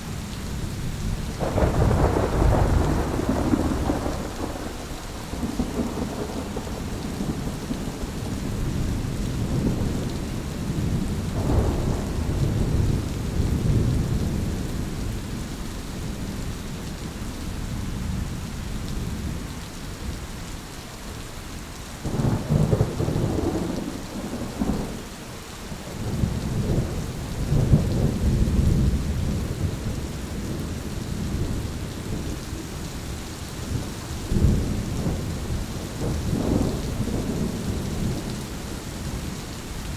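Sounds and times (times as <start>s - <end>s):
steady rain: 0.0s - 39.9s
thunder rumbling: 1.2s - 16.6s, 22.1s - 32.6s, 33.6s - 39.9s.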